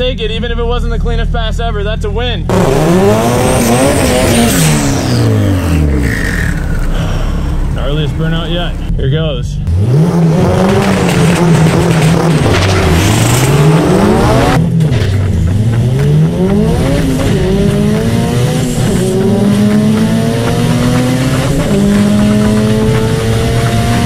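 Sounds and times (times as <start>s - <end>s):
car engine at full throttle: 2.0s - 24.0s.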